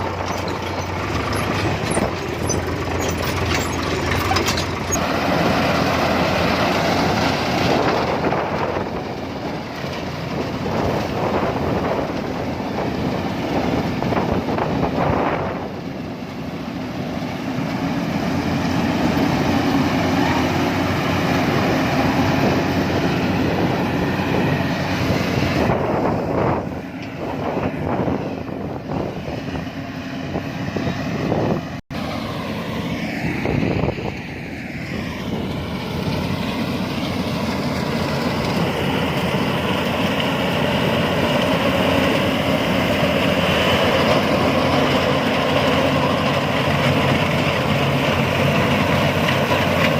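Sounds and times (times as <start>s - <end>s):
farm machinery diesel engine running: 0.0s - 49.9s.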